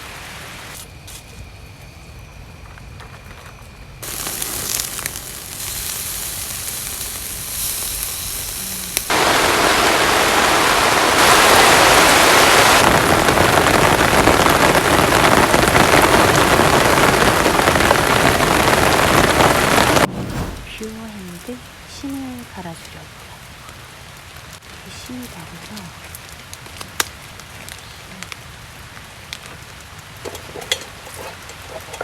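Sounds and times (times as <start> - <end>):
heavy rain pouring: 0.0 - 0.8, 4.0 - 31.9.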